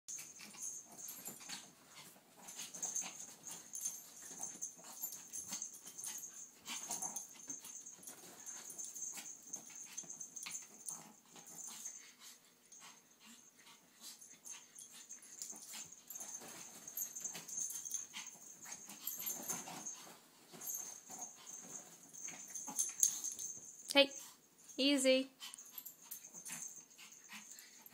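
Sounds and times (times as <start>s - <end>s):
puppies play-fighting: 0.1s - 24.8s, 25.4s - 27.9s.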